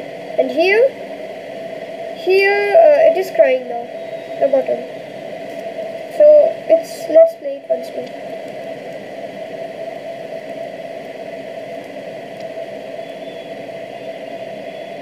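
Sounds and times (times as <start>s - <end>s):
steady whirring hum: 0.0s - 15.0s.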